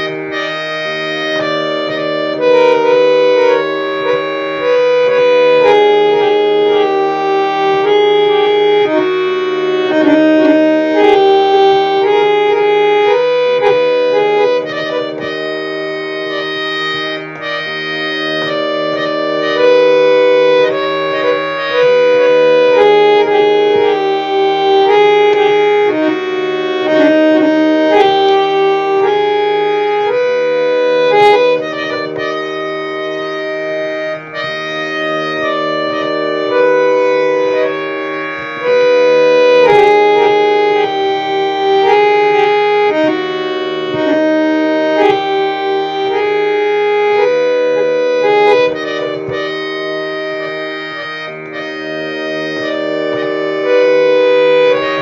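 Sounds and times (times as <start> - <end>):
harmonium melody over drone: 0.0 - 55.0.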